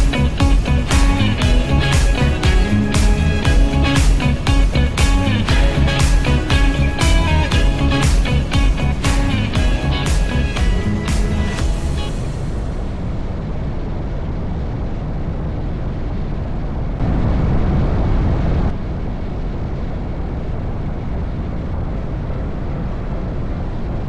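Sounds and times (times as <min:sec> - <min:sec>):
wind rumble and road noise: 0:00.0 - 0:24.0.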